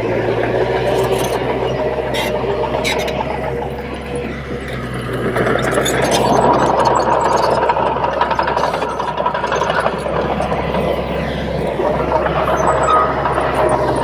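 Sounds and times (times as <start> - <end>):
diesel engine running: 0.0 - 14.0
steel tracks clanking: 0.0 - 14.0.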